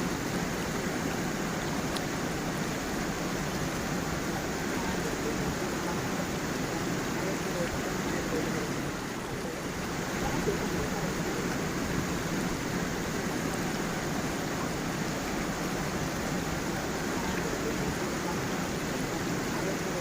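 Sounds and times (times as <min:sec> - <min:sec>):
stream and waterfall rushing: 0:00.0 - 0:20.0.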